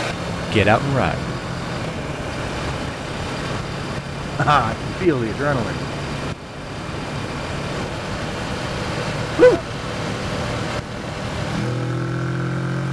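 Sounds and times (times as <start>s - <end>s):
wind and road noise: 0.0s - 12.9s.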